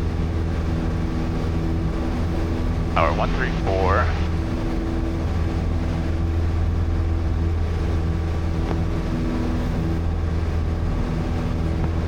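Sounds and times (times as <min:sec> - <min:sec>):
light airplane engine droning: 0:00.0 - 0:12.0.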